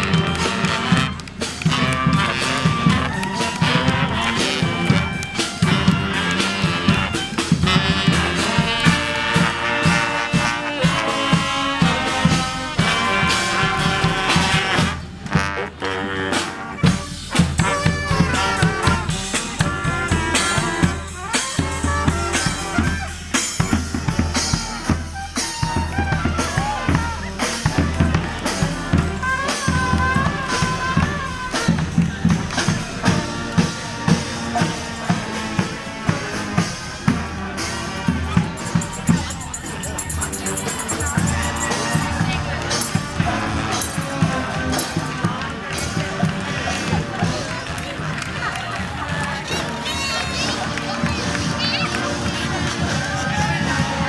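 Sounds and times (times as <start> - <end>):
drum beat with bass drum: 0.0 - 54.0
horns playing a tune: 0.0 - 54.0.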